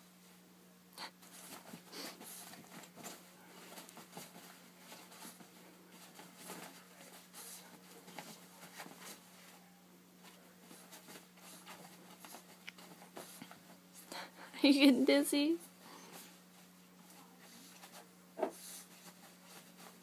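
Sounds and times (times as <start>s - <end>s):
puppy paws scuffing a duvet: 1.2s - 14.1s, 15.4s - 20.0s.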